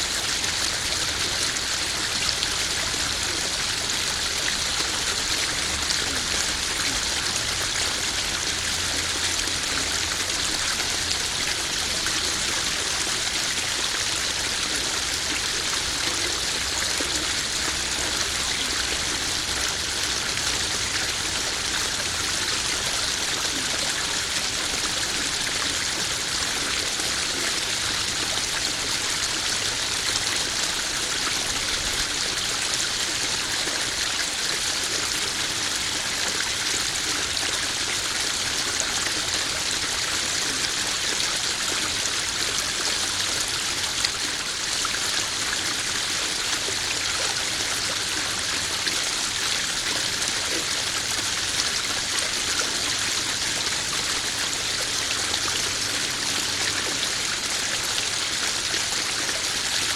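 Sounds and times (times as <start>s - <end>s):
waterfall splashing into pond: 0.0s - 59.9s.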